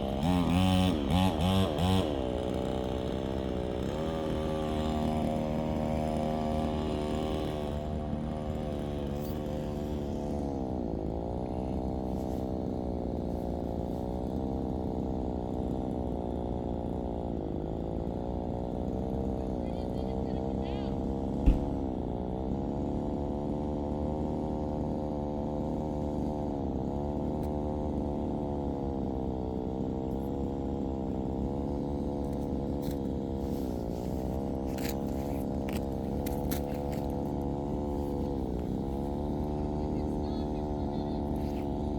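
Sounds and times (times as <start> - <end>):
chainsaw engine cutting: 0.0 - 41.9.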